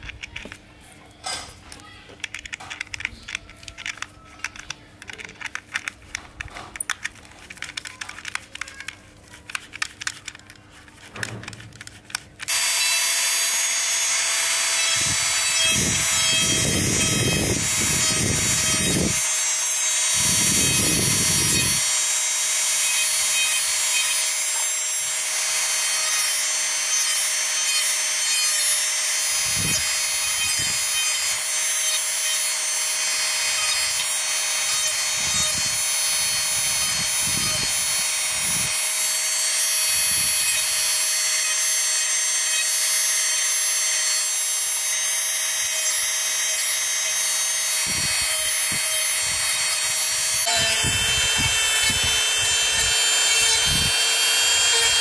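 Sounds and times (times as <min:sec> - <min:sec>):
rotary tool whining: 0:00.0 - 0:55.0.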